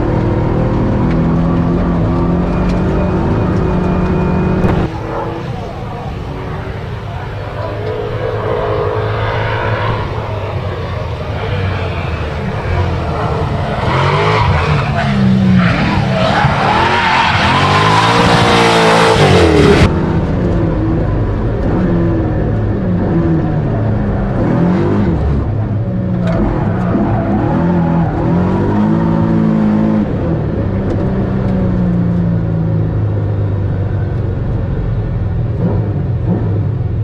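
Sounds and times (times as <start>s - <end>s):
race car engine revving: 0.0s - 33.5s.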